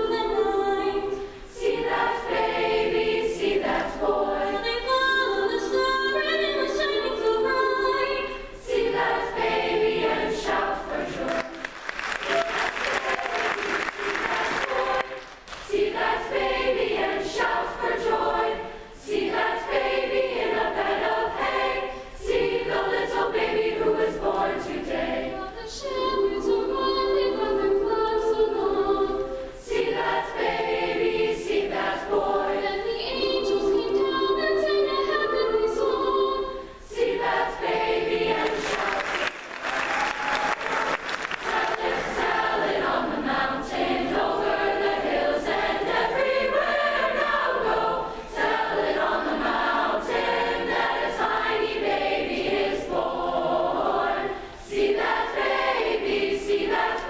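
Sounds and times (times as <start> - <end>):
large mixed choir singing: 0.0 - 57.0.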